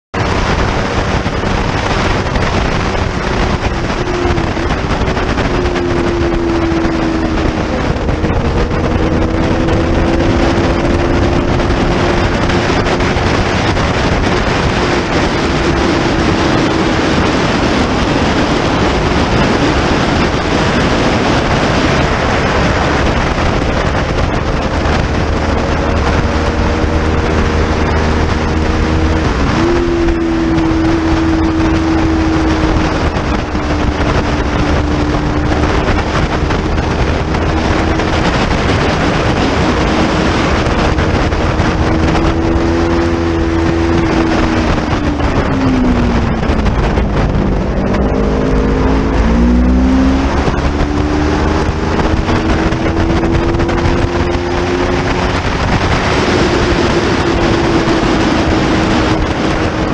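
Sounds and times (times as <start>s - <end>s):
motorcycle engine running hard: 0.0s - 59.9s
wind rush on microphone: 0.0s - 59.9s.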